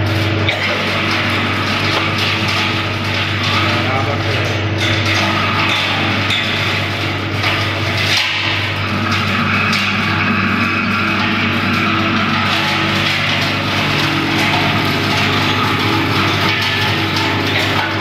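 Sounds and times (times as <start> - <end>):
garden shredder motor hum: 0.0 - 18.0.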